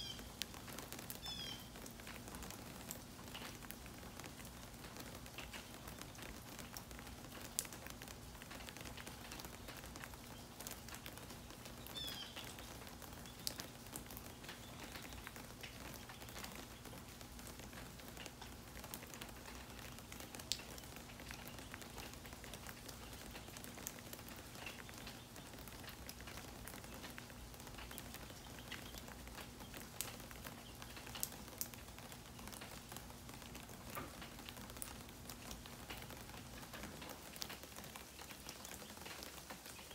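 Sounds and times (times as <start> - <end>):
light rain patter: 0.0 - 39.9.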